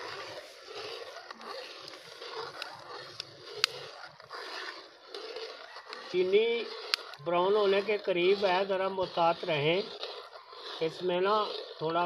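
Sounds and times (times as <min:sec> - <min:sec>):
spatula scraping metal pan: 0:00.0 - 0:12.0
syrup bubbling: 0:00.0 - 0:12.0.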